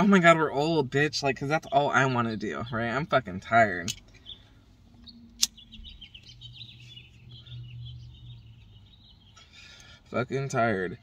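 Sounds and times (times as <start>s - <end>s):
birds chirping: 0.0s - 11.0s
low steady hum: 0.0s - 11.0s.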